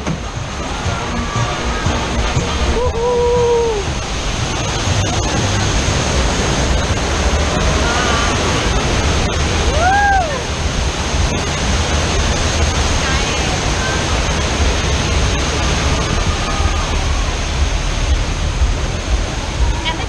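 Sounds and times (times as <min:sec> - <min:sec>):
water rushing down waterfall: 0:00.0 - 0:20.0.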